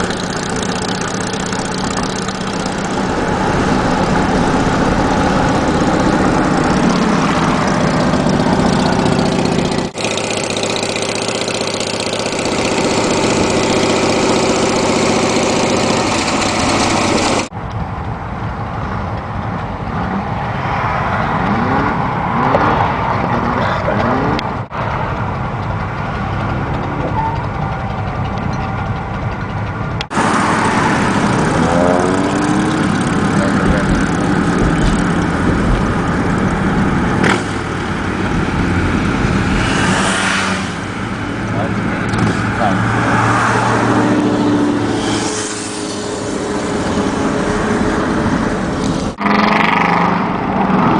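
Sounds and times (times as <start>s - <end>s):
motorcycle engine revving: 0.0s - 17.5s, 19.8s - 50.9s
wind and road rush: 0.0s - 50.9s.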